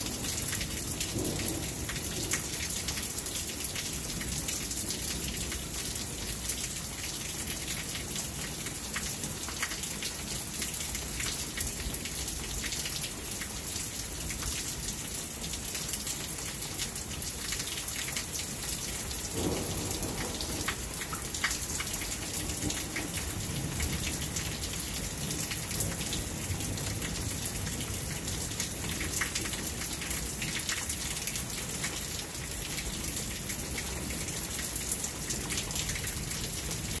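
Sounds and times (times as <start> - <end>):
heavy rain falling: 0.0 - 37.0
raindrops tapping on surfaces: 0.0 - 37.0.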